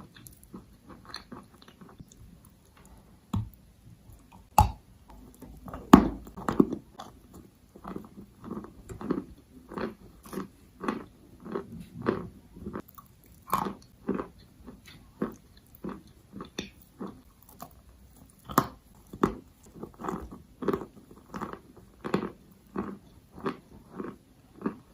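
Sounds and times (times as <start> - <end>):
person chewing chalk: 0.0 - 24.9.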